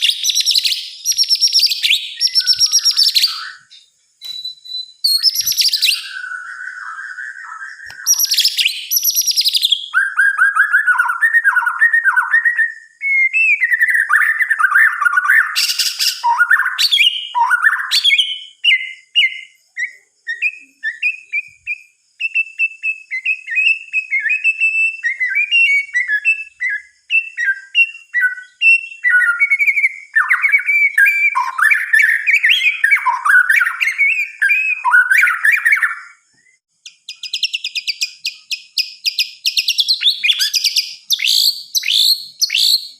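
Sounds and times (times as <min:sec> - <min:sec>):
bird singing whistled phrases: 0:00.0 - 0:42.9.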